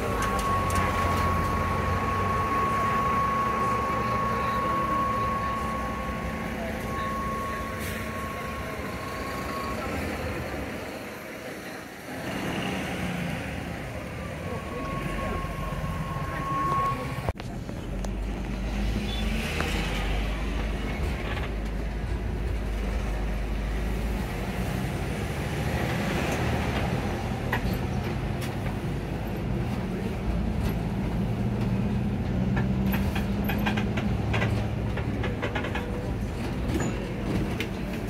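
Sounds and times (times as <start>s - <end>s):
bus engine hum and road rumble: 0.0s - 38.0s.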